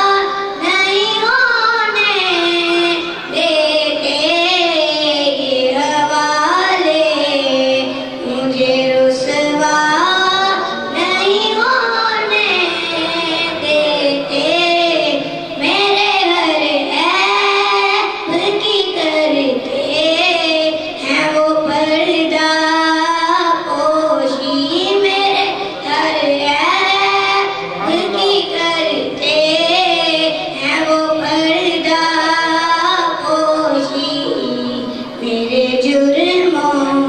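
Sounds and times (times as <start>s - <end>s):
boy singing into microphone: 0.0s - 37.0s.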